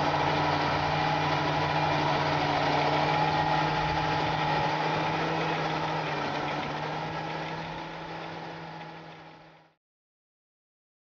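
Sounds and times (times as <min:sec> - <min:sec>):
tractor diesel engine running: 0:00.0 - 0:09.8.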